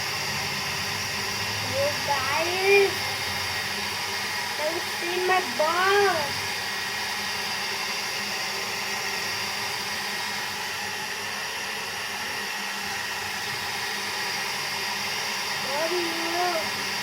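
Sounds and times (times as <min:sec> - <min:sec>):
hair dryer blowing air: 0:00.0 - 0:17.0.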